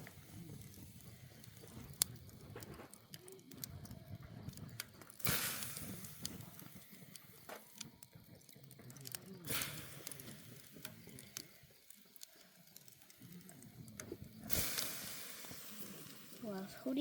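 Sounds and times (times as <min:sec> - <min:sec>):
campfire crackling and popping: 0:00.0 - 0:17.0
fire hissing: 0:00.0 - 0:17.0.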